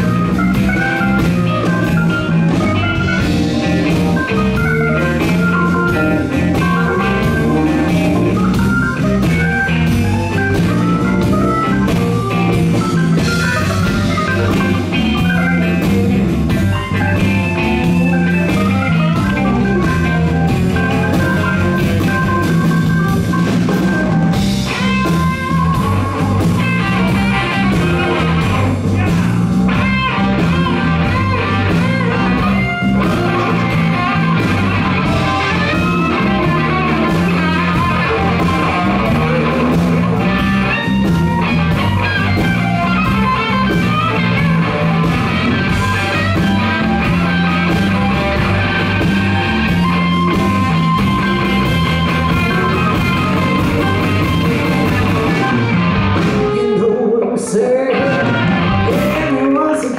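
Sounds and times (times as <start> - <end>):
bass guitar: 0.0 - 59.9
drums: 0.0 - 59.9
electric guitar with bent notes: 0.0 - 59.9.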